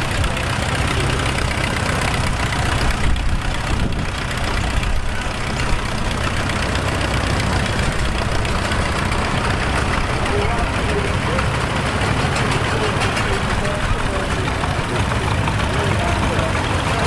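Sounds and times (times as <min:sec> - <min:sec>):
tractor engines running: 0:00.0 - 0:17.0.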